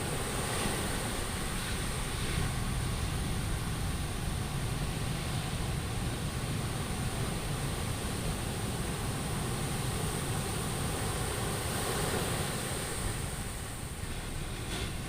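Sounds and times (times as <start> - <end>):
sea surf washing onto beach: 0.0 - 15.0.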